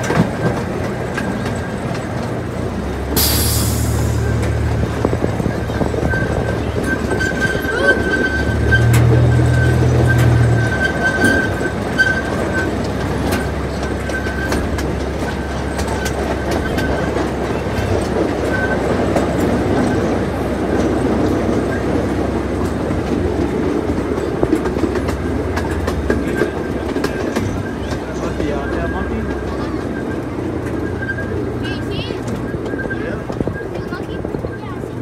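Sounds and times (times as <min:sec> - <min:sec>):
passenger cars clicking and rattling: 0:00.0 - 0:35.0
train rolling rumble: 0:00.0 - 0:35.0.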